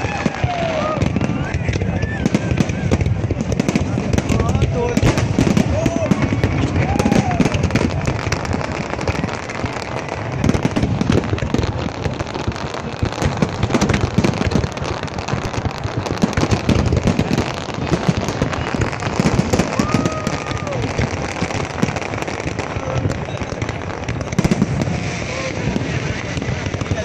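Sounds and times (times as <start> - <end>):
fireworks crackling and popping: 0.0 - 27.0.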